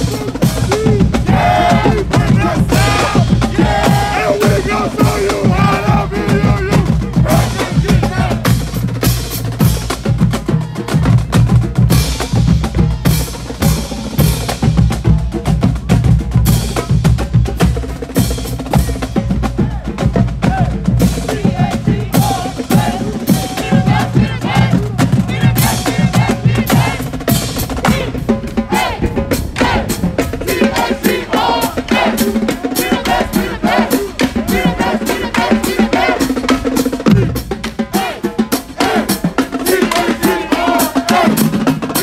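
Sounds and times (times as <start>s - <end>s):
brass: 0.0s - 42.0s
marching drumline: 0.0s - 42.0s.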